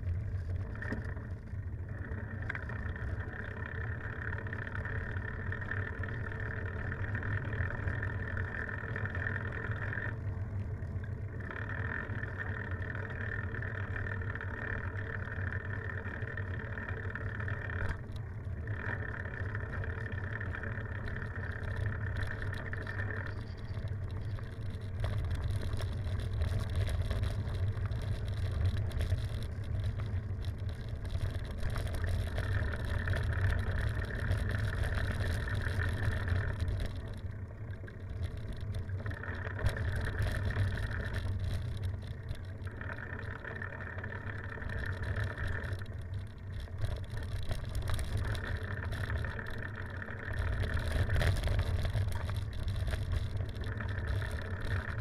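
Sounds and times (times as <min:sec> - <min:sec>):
bicycle tyres rumbling: 0:00.0 - 0:55.0.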